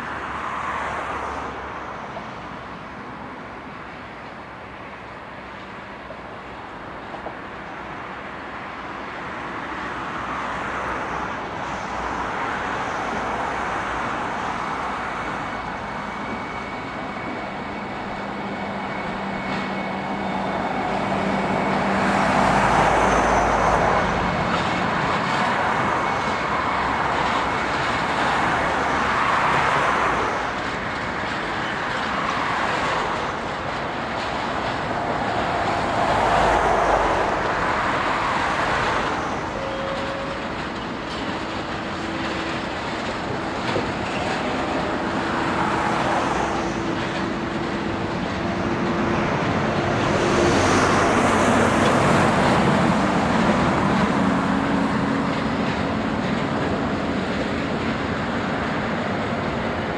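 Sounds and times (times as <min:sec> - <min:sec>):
train rolling on rails: 0:00.0 - 0:59.9.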